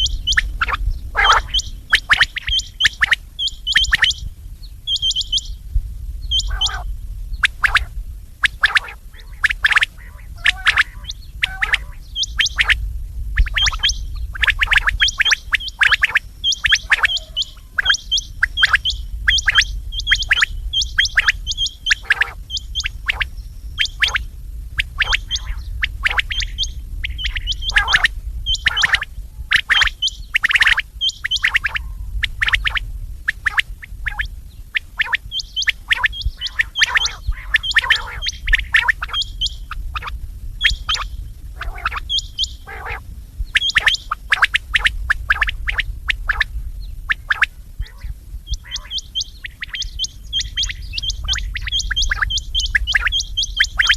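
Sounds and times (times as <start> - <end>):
quail calling: 0.0 - 4.3, 4.9 - 5.6, 6.3 - 12.8, 13.4 - 46.5, 47.1 - 53.9
steady low hum: 0.0 - 53.9.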